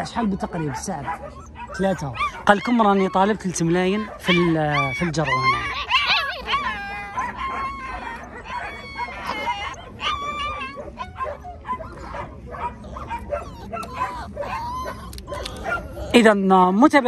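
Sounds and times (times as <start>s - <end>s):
puppies whining and yelping: 0.0s - 16.7s.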